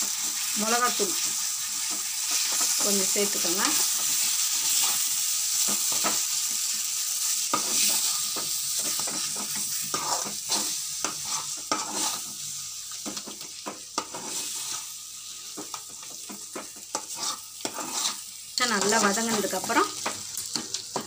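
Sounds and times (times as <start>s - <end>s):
masala sizzling in oil: 0.0s - 21.0s.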